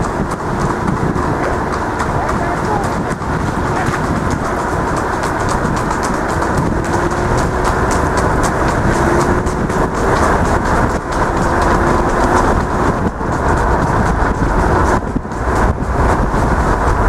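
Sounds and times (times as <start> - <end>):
car road noise on wet road: 0.0 - 17.0
hooves trotting on tarmac: 0.0 - 17.0
wind buffeting microphone: 0.0 - 17.0.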